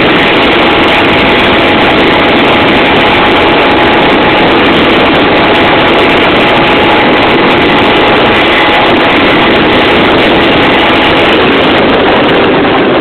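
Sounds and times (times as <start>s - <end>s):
wind over microphone: 0.0s - 13.0s.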